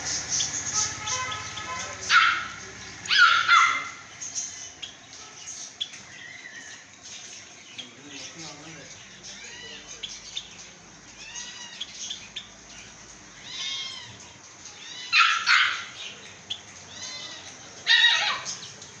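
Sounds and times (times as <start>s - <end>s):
loud harsh bird calls: 0.0s - 19.0s
small birds chirping: 0.0s - 19.0s.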